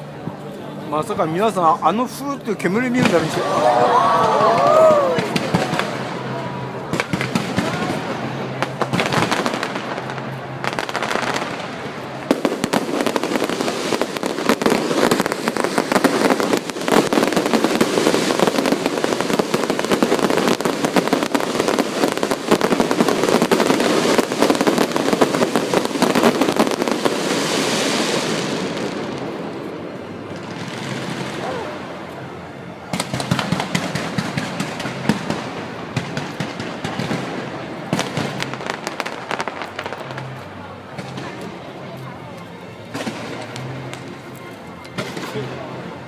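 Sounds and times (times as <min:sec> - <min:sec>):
fireworks crackling and popping: 0:00.0 - 0:46.0.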